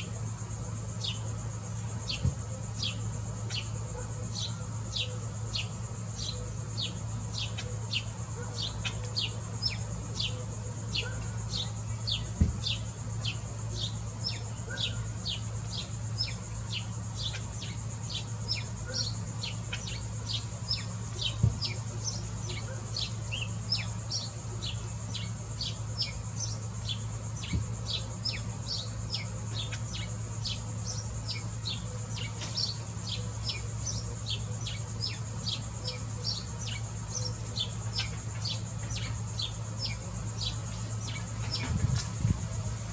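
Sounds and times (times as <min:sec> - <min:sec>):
high insect hiss: 0:00.0 - 0:42.9
bird chirping: 0:04.4 - 0:41.7.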